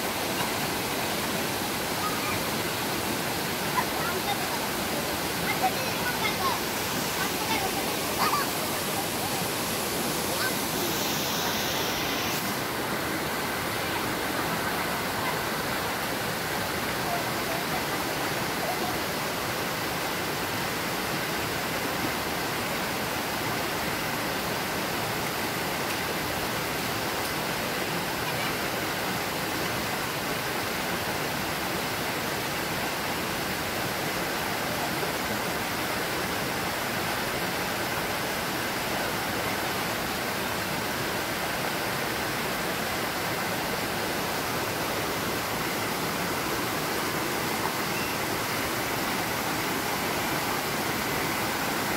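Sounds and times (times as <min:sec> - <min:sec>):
stream rushing over stones: 0:00.0 - 0:51.9.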